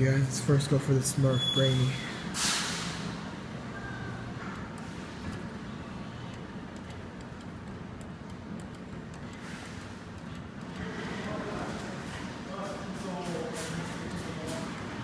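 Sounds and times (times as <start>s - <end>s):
claw machine hum: 1.9s - 15.0s.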